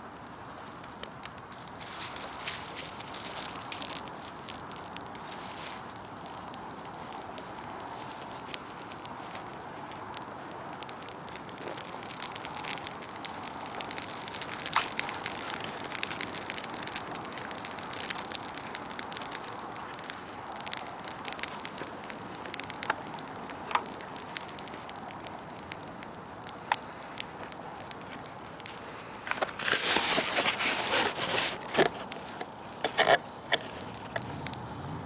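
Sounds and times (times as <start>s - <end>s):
bonfire crackling: 0.0s - 35.0s
fire pops: 0.1s - 35.0s.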